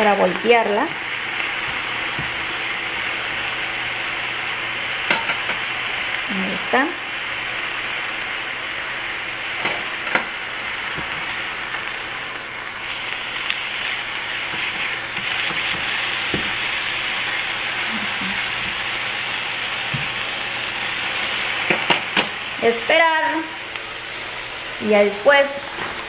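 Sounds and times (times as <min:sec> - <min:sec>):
chicken sizzling in a pan: 0:00.0 - 0:25.7.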